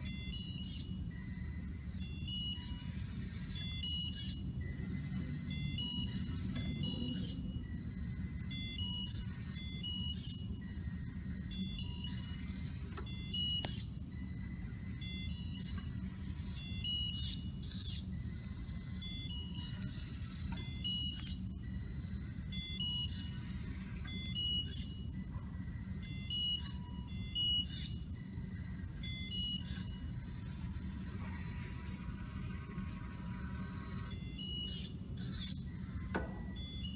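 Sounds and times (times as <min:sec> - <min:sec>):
robot motors humming: 0:00.0 - 0:36.9
servo whining or beeping: 0:00.0 - 0:36.9.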